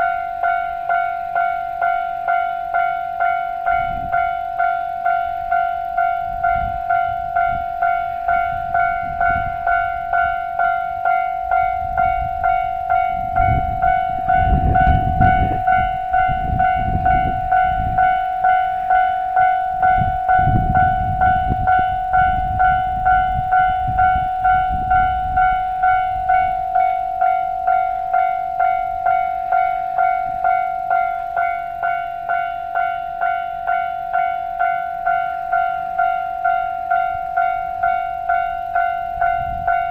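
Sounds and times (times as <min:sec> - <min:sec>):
level crossing warning bell: 0:00.0 - 0:39.9
train running noise: 0:00.0 - 0:39.9.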